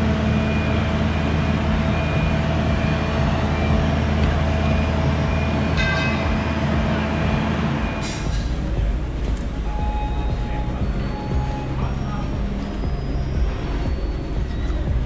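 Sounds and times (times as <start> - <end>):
high pulsing beep: 0.0 - 15.0
travel lift engine running: 0.0 - 15.0.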